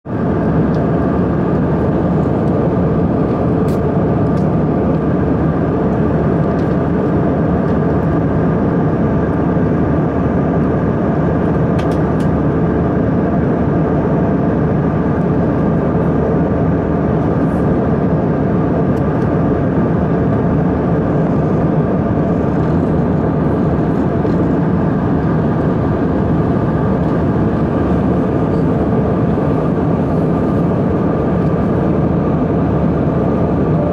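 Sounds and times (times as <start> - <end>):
aircraft cabin engine rush: 0.0 - 33.9.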